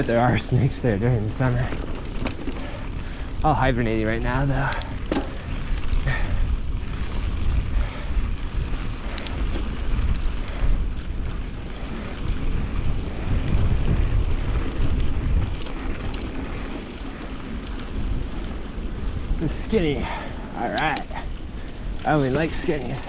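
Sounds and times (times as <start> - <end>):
bike clicks and rattles: 0.0 - 23.0
bike tyres on dirt: 0.0 - 23.0
wind rumbling on microphone: 0.0 - 23.0.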